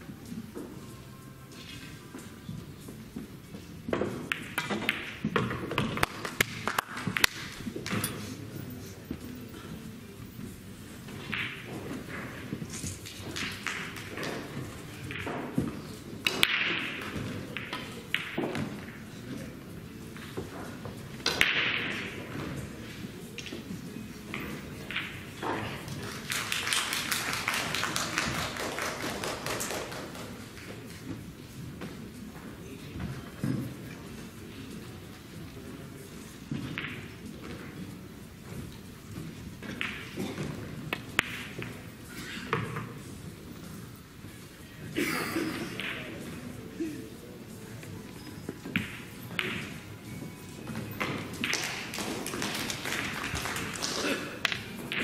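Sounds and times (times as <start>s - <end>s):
pool balls clicking: 1.6s - 8.5s, 10.3s - 34.0s, 36.3s - 46.6s, 47.7s - 55.0s.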